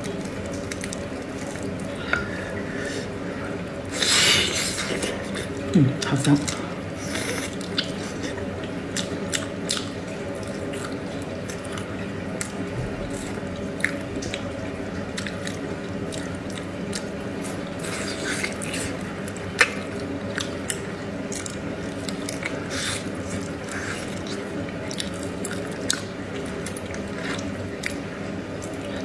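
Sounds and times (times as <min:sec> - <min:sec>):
steady low hum: 0:00.0 - 0:29.0
wet chewing: 0:00.1 - 0:02.7, 0:03.9 - 0:29.0.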